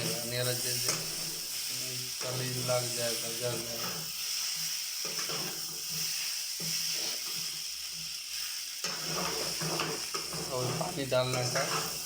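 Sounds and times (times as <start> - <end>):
curry sizzling in a pan: 0.0 - 12.0.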